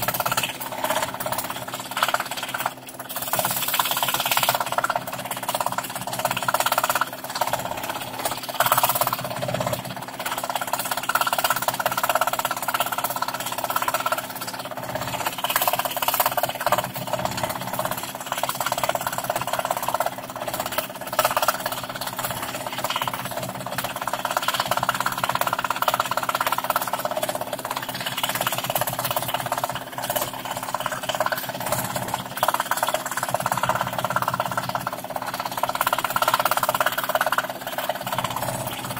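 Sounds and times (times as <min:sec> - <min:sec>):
scroll saw cutting wood: 0:00.0 - 0:38.9.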